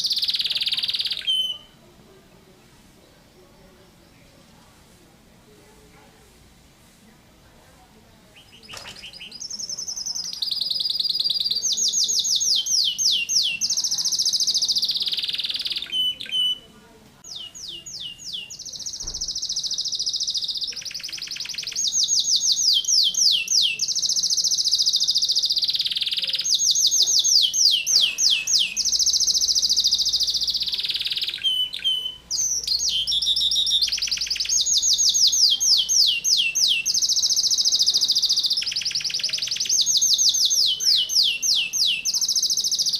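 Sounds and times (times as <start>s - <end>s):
canary trilling song: 0.0s - 1.8s, 8.3s - 42.9s.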